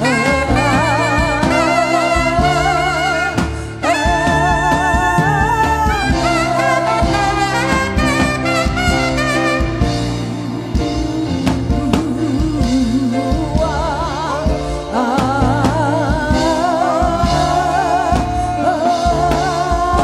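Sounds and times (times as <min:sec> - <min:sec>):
band accompaniment: 0:00.0 - 0:20.0
gospel singing with vibrato: 0:00.0 - 0:20.0.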